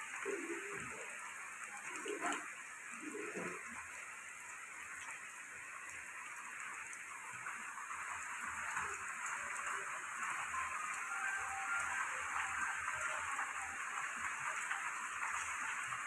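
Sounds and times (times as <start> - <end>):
heavy rain on ground and roofs: 0.0 - 16.0.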